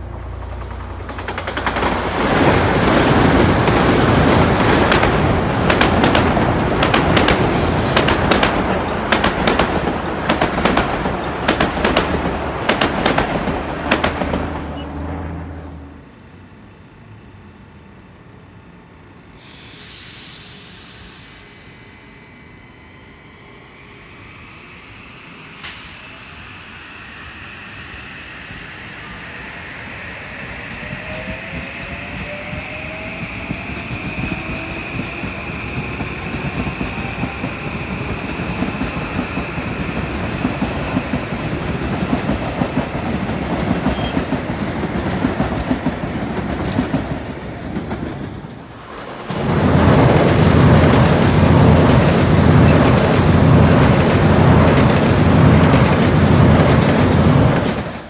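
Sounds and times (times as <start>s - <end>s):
train passing at speed: 0.0s - 17.2s, 18.3s - 58.0s
electric train moving off whining: 0.0s - 58.0s.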